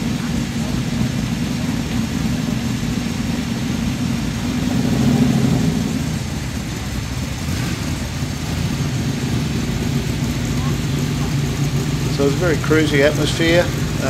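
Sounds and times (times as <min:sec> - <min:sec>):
car engines idling: 0:00.0 - 0:14.0.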